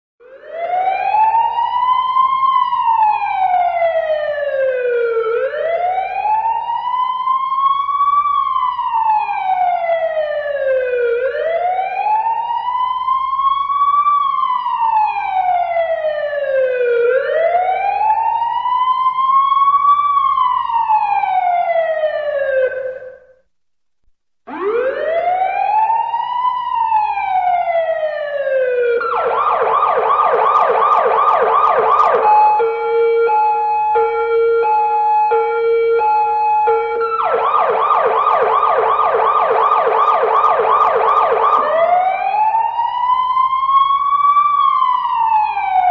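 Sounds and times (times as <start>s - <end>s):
police siren fast yelp: 0.2s - 23.2s, 24.5s - 45.9s
police siren wailing: 0.2s - 23.2s, 24.5s - 45.9s.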